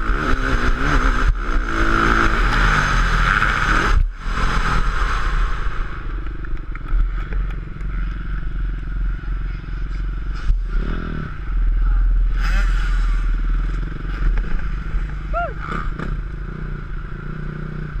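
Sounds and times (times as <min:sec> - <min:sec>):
motocross bike engine running: 0:00.0 - 0:18.0.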